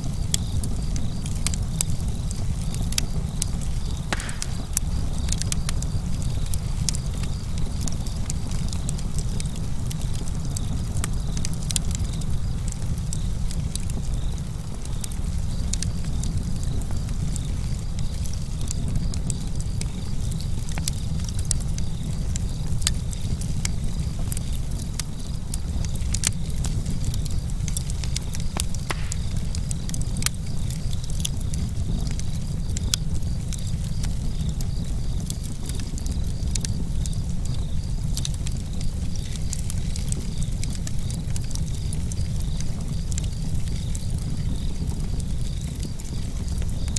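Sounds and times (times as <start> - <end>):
campfire crackling and popping: 0.0 - 46.9
crickets chirping: 0.0 - 46.9
flames rushing: 0.0 - 46.9.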